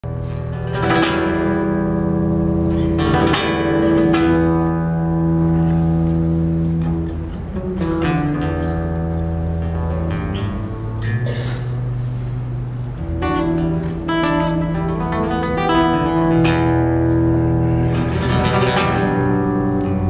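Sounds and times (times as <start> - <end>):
acoustic guitar chords ringing: 0.1 - 20.0.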